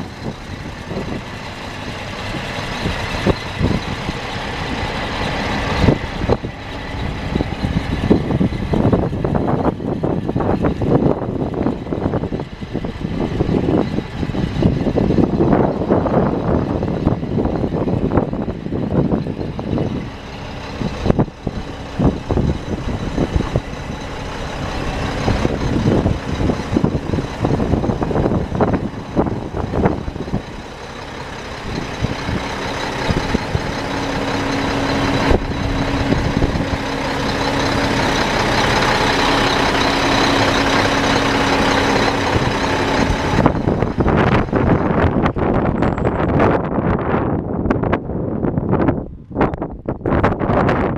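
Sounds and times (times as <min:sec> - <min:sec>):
vehicle engine droning: 0:00.0 - 0:50.9
wind buffeting microphone: 0:00.0 - 0:50.9.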